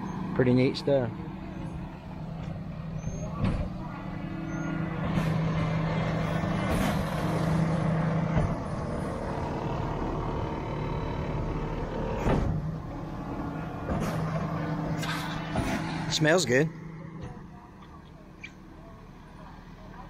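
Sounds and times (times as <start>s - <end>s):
truck engine running: 0.0s - 20.0s
hydraulic floor pushing load: 1.5s - 18.1s.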